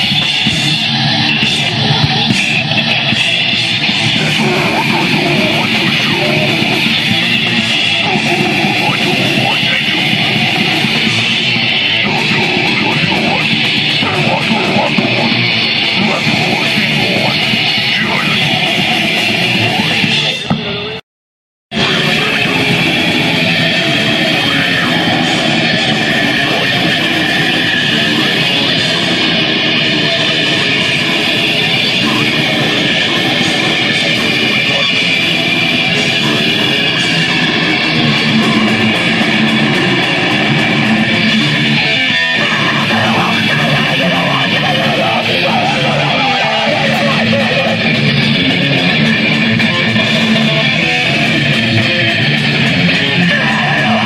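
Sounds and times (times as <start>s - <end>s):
distorted metal band playing live: 0.0s - 21.0s, 21.7s - 54.0s.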